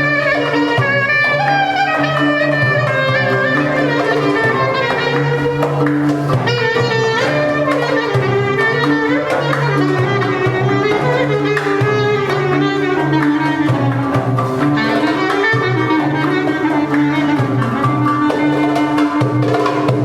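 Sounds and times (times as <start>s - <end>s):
bass and rhythm accompaniment: 0.0s - 20.0s
wind instrument melody with slides: 0.0s - 20.0s.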